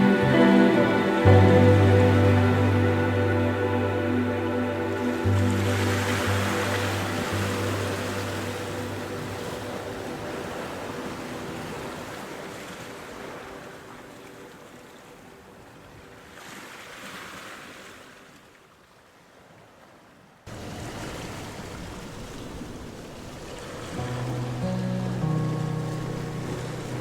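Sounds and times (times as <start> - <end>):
ocean surf washing ashore: 0.0 - 18.1, 20.5 - 27.0.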